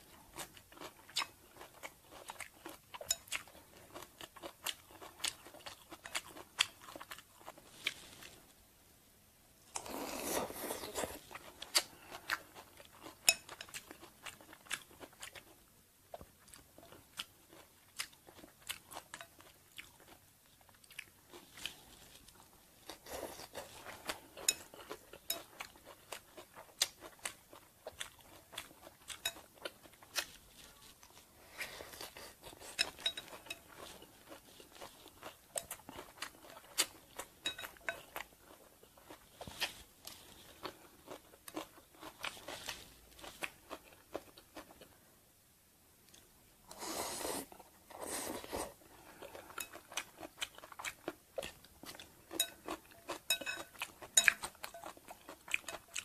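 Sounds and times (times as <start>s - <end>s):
person chewing and crunching: 0.0s - 8.4s, 9.7s - 45.0s, 46.1s - 56.0s.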